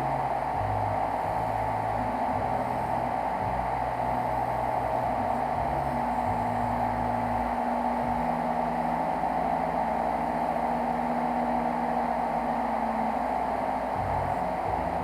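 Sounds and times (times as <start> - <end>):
cooling fan whirring: 0.0 - 15.0
stepper motors humming: 0.0 - 15.0.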